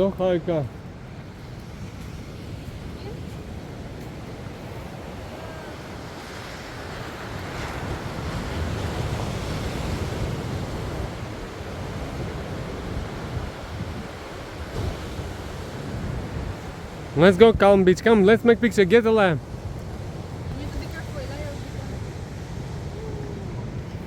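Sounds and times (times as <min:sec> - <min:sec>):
ocean surf washing in: 0:00.0 - 0:24.0
wind buffeting microphone: 0:00.0 - 0:24.0.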